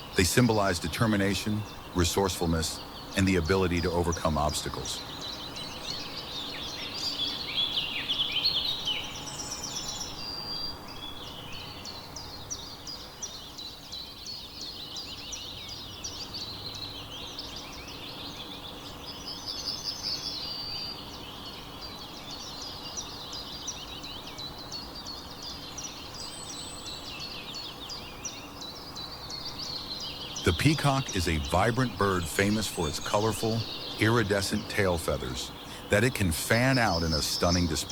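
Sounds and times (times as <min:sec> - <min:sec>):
faint background hiss: 0:00.0 - 0:37.9
songbirds chirping and trilling: 0:00.0 - 0:37.9.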